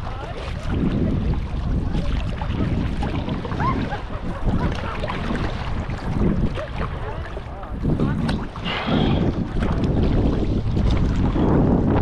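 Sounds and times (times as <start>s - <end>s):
water sloshing around kayak: 0.0s - 12.0s
wind over microphone: 0.0s - 12.0s.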